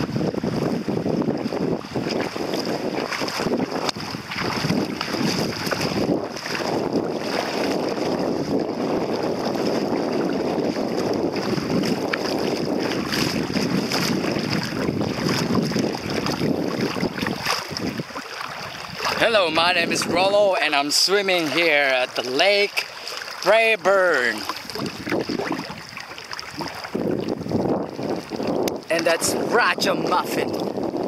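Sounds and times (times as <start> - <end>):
lake waves lapping: 0.0 - 31.0
wind buffeting microphone: 0.0 - 31.0.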